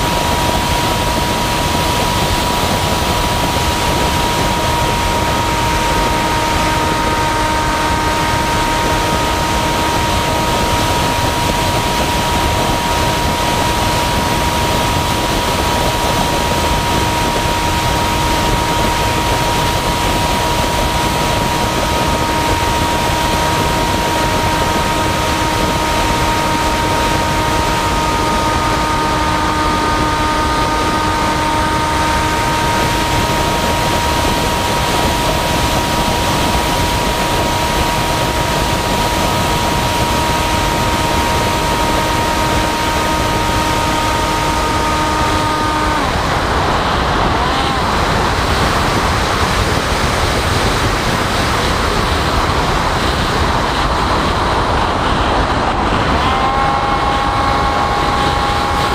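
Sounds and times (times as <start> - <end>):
propeller motor whine: 0.0 - 58.9
wind rush: 0.0 - 58.9.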